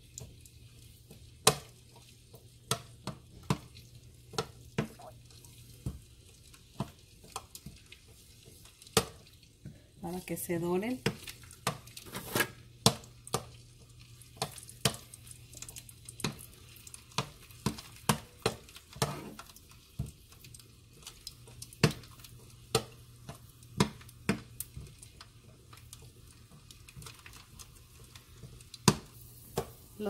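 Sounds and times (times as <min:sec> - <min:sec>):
garlic frying in hot oil: 0:00.0 - 0:30.0.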